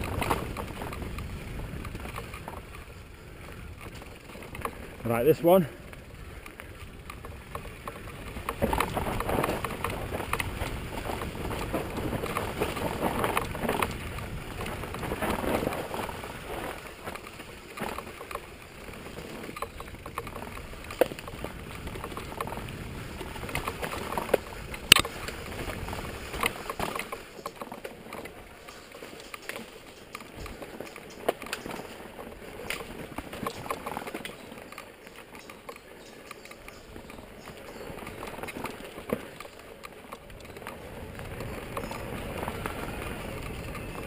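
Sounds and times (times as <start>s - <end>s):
bike frame rattling: 0.0s - 44.0s
bike tyres on dirt: 0.0s - 44.0s.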